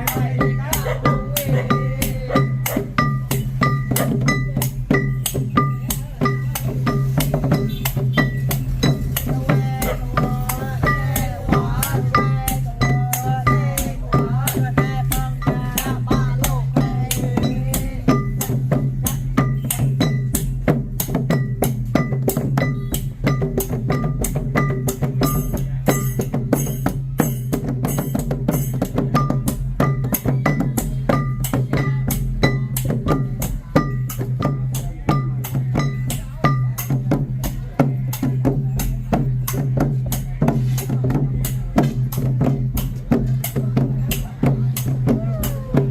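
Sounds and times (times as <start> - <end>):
drums and small cymbals: 0.0 - 45.9.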